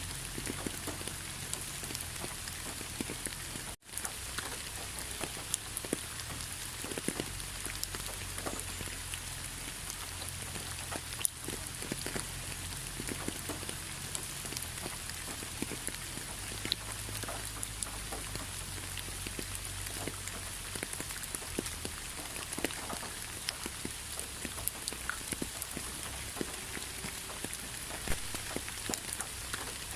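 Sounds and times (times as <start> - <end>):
raindrops ticking on surfaces: 0.0 - 29.9
steady rain hiss: 0.0 - 29.9.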